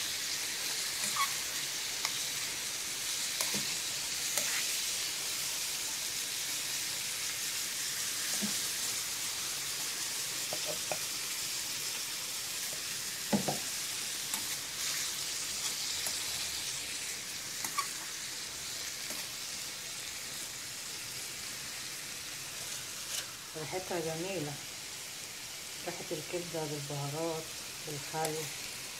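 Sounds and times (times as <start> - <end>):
food sizzling in a pan: 0.0 - 28.9.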